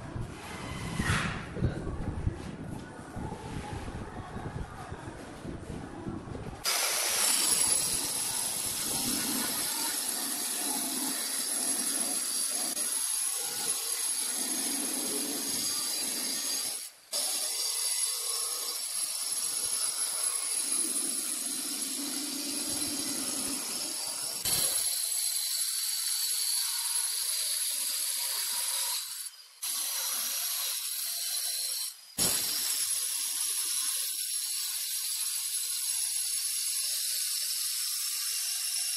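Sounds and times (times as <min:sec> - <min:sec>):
stone cutter whining and grinding: 0:06.6 - 0:38.9.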